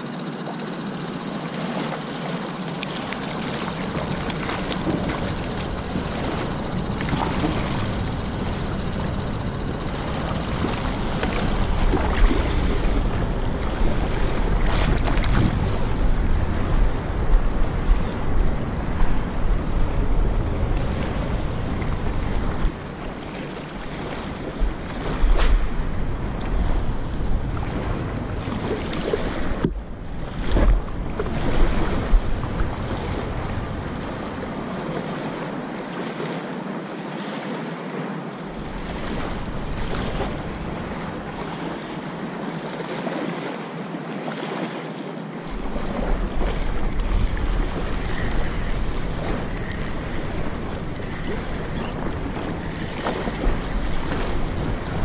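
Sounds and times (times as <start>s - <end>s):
small waves lapping: 0.0s - 55.0s
wind buffeting microphone: 3.3s - 35.8s, 38.5s - 42.5s, 45.4s - 55.0s.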